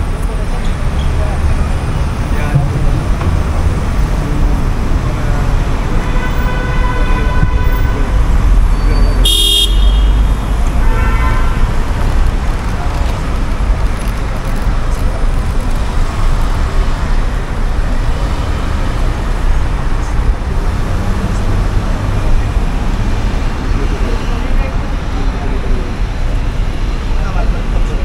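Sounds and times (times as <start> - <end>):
cars driving through intersection: 0.0 - 28.0.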